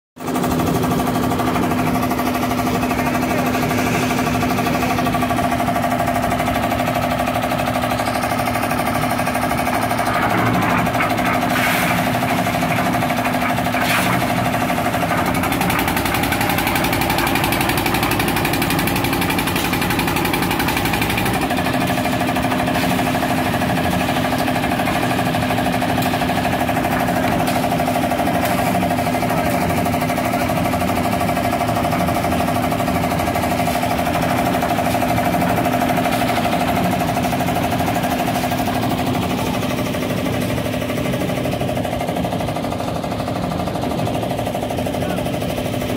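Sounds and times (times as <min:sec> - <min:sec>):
concrete mixer engine running: 0:00.2 - 0:45.9.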